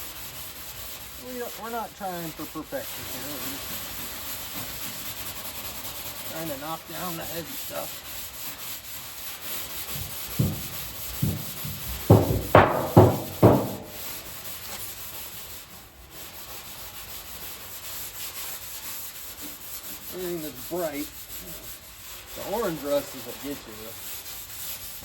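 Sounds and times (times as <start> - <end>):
scrubbing pad rubbing rusty steel: 0.4 - 25.0.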